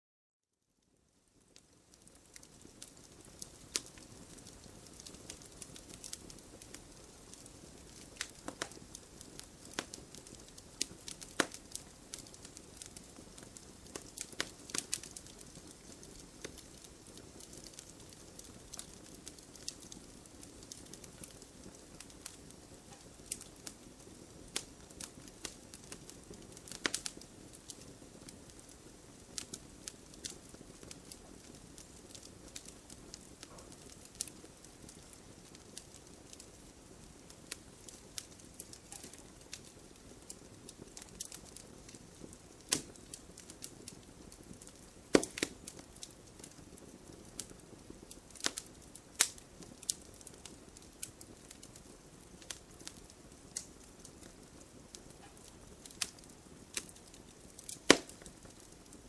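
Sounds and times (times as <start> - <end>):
fire crackling and popping: 0.8 - 59.0
hiss of flames: 2.0 - 59.0.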